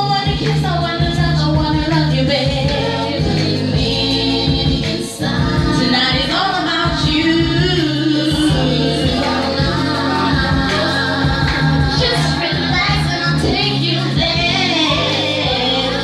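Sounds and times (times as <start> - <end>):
voices singing over a beat: 0.0 - 16.0.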